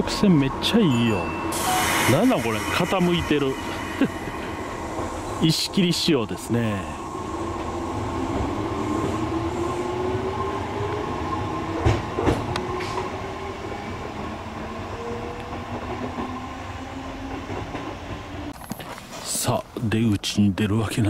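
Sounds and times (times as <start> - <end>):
electric train rumbling: 0.0 - 20.9.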